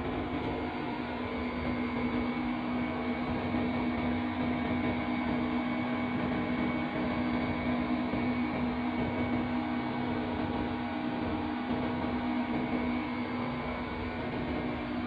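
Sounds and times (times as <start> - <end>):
locomotive engine drone: 0.0 - 15.0.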